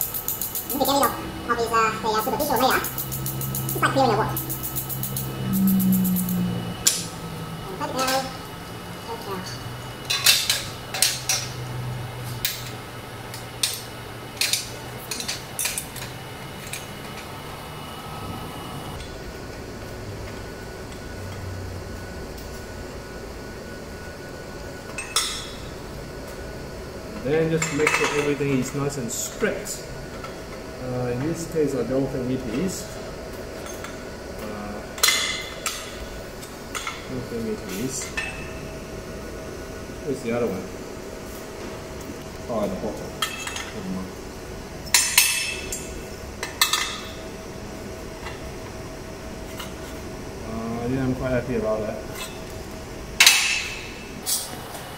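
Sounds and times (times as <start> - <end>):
low steady hum: 0.0 - 54.3.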